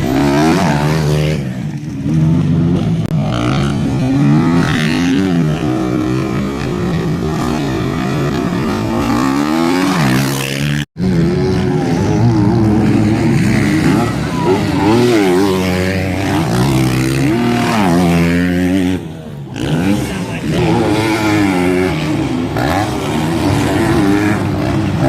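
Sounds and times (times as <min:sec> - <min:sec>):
motocross bike engines revving: 0:00.0 - 0:25.0.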